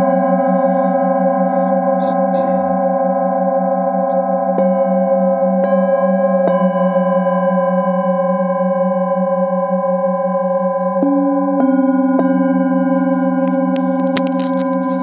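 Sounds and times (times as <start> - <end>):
singing bowls ringing: 0.0 - 15.0.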